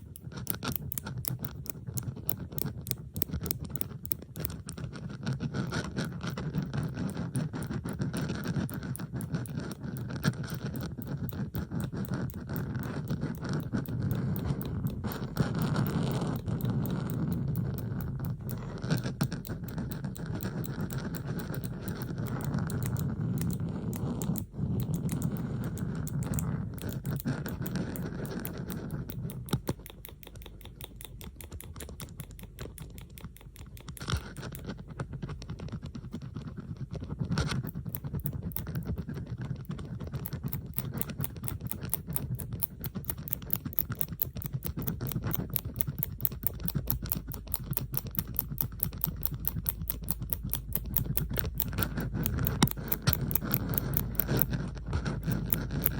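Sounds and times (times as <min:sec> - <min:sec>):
bobby pins clicking and scraping: 0:00.0 - 0:55.9.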